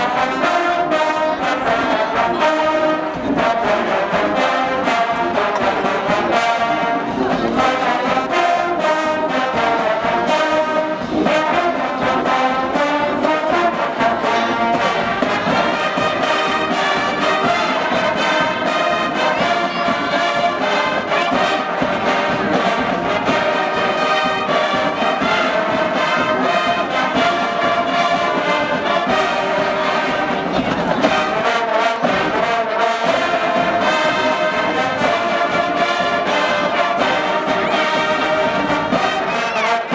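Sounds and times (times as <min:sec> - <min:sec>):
marching band brass playing: 0:00.0 - 0:39.9.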